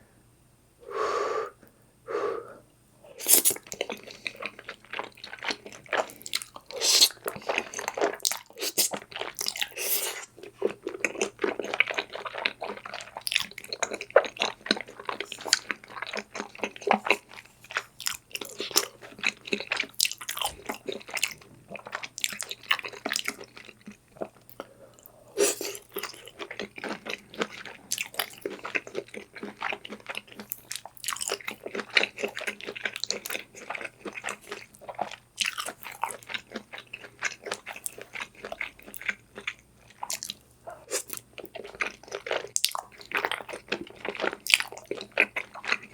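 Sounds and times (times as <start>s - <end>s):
person chewing and biting: 3.2s - 45.9s.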